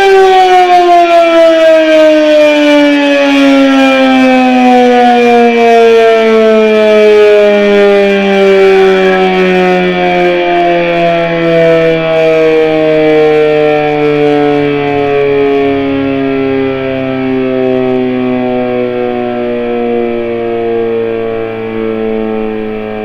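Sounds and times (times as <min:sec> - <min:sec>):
warning siren winding down: 0:00.0 - 0:23.0.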